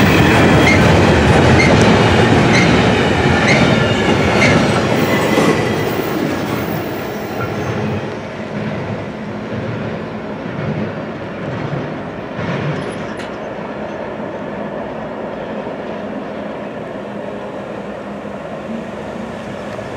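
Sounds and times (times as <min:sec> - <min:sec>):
freight cars rumbling on rails: 0:00.0 - 0:19.9.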